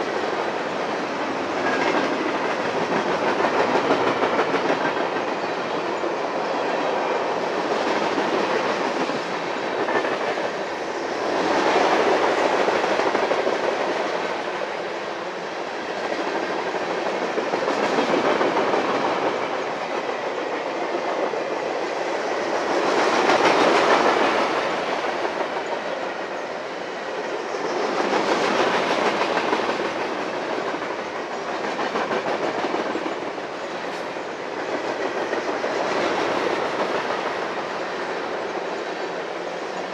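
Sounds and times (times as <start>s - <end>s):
train cars rolling on track: 0.0s - 39.9s.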